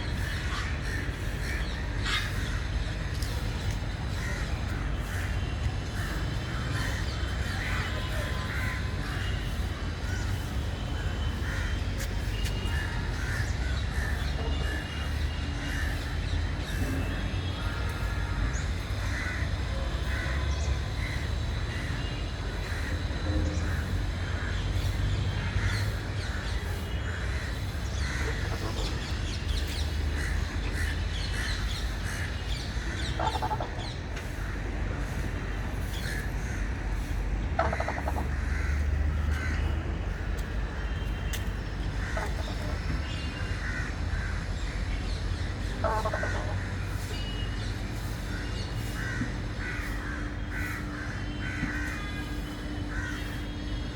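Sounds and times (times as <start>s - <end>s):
loud bird calls: 0.0s - 39.8s, 40.8s - 53.9s
birds calling: 0.0s - 53.9s.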